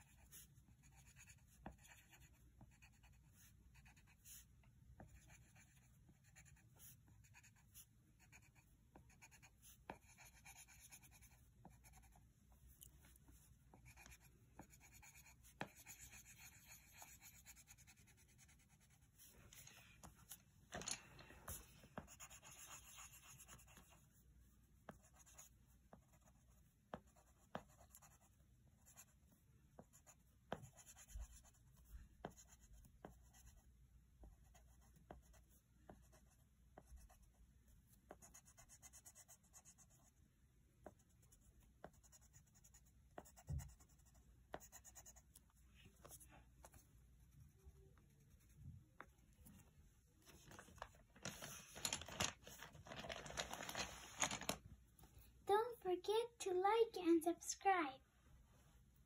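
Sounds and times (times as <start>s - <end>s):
pencil scratching on paper: 0.0s - 20.4s, 21.5s - 40.2s, 40.8s - 49.6s.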